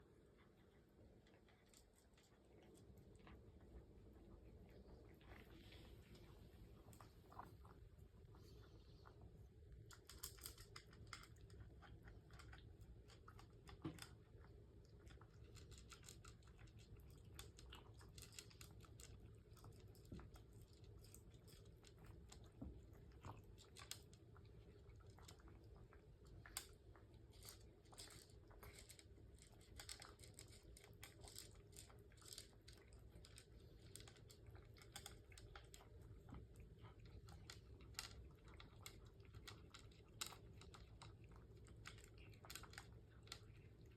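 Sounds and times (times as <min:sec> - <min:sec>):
cats crunching food: 0:00.0 - 0:43.9.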